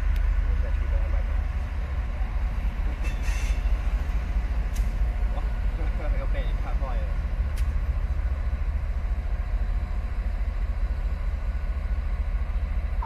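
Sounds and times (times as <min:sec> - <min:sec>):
distant diesel locomotive rumble: 0:00.0 - 0:13.0.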